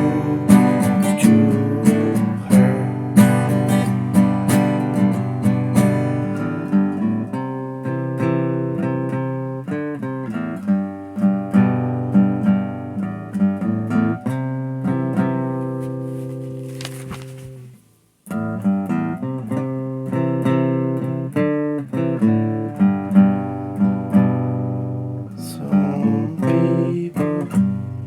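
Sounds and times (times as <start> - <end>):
acoustic guitar strummed and picked: 0.0 - 16.8, 18.2 - 28.0.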